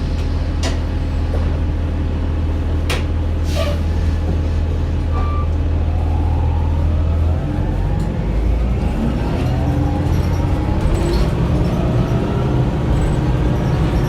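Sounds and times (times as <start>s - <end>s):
bus cabin low drone: 0.0s - 14.0s.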